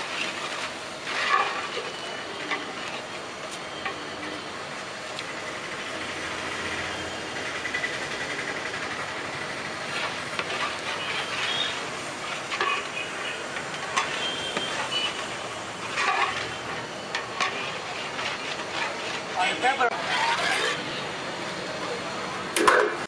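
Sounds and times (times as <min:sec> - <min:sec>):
pot hissing over high heat: 0:00.0 - 0:22.4.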